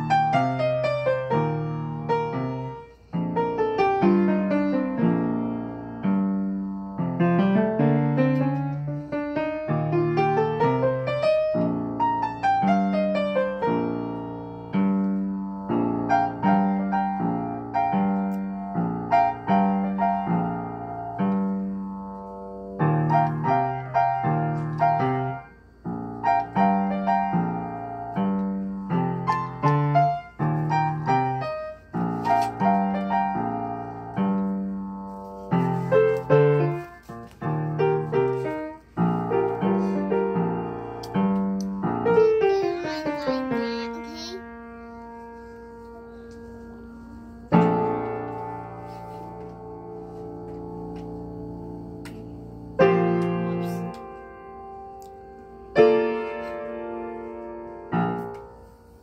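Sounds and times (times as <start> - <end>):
boogie-woogie piano piece: 0.0 - 59.0.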